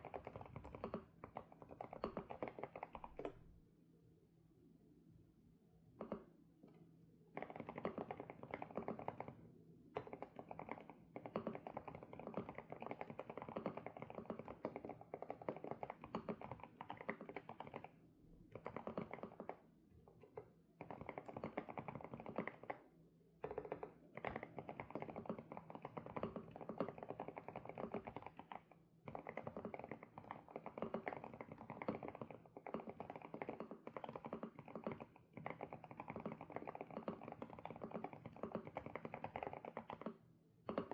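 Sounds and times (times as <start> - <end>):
mechanical keyboard typing: 0.0 - 3.4, 7.4 - 9.4, 10.0 - 19.6, 20.2 - 22.8, 23.4 - 40.9.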